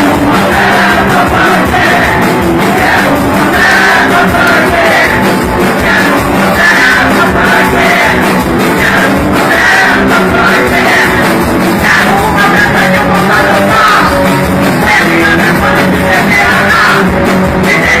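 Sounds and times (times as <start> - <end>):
person singing: 0.0 - 18.0
punk rock band playing: 0.0 - 18.0.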